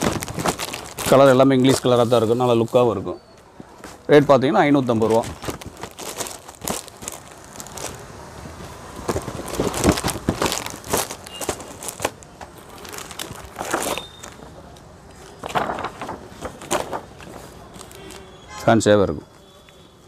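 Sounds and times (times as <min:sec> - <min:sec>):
plastic wrapping crinkling: 0:00.0 - 0:03.0, 0:03.7 - 0:18.4.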